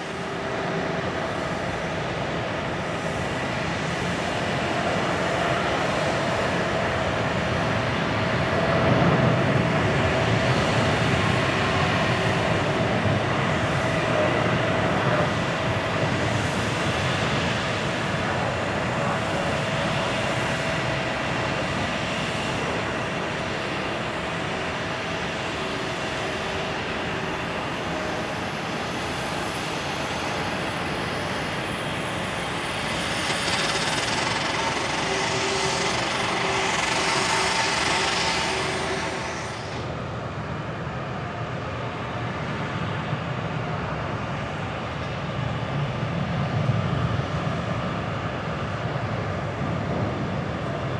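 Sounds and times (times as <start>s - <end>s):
jet engines at takeoff thrust: 0.0s - 50.9s.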